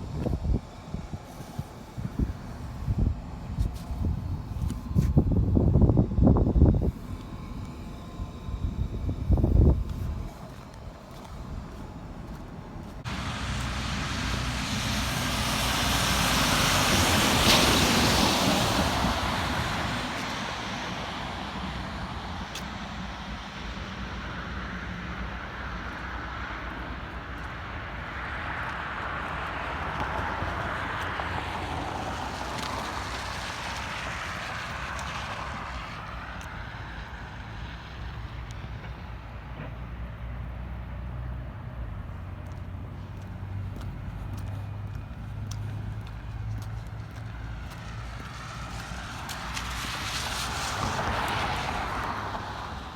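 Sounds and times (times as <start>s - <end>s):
car passing on snowy road: 0.0s - 52.9s
passing traffic: 0.0s - 52.9s.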